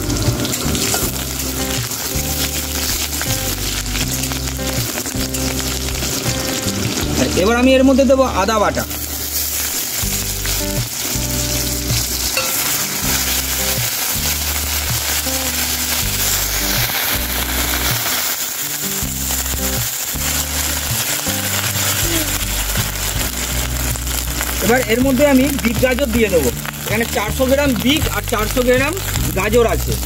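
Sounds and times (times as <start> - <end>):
paste sizzling in hot oil: 0.0 - 30.0.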